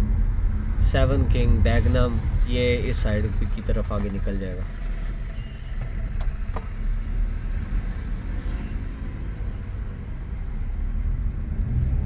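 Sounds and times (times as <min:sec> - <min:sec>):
engine and road noise in car: 0:00.0 - 0:12.0.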